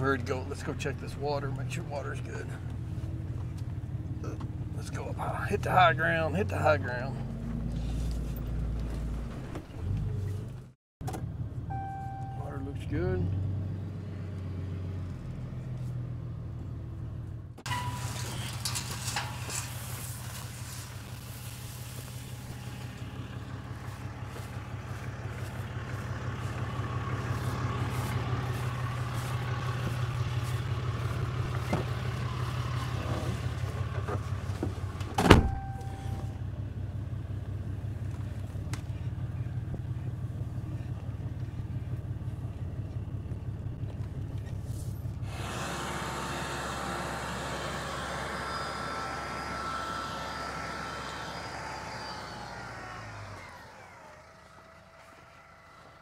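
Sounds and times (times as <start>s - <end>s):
engine hum with faint whine: 0.0s - 56.0s
vehicle engine running: 0.0s - 56.0s.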